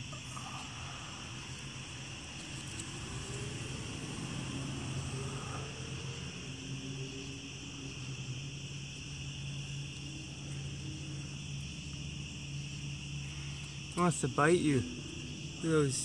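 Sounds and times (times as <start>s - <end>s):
distant motor hum: 0.0s - 16.0s
high insect buzz: 0.0s - 16.0s.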